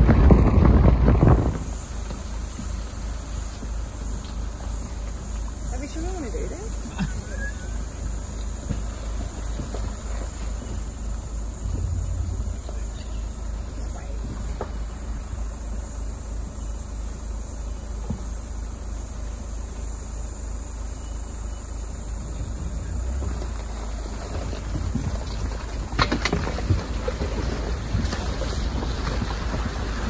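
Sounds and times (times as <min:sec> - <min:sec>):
insects droning: 0:00.0 - 0:30.0
vehicle engine rumble: 0:00.0 - 0:30.0.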